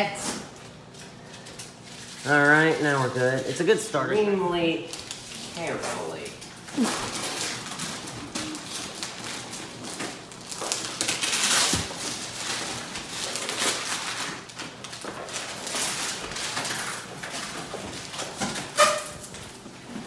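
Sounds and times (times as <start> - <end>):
paper rustling and tearing: 1.8 - 3.7, 4.8 - 20.0.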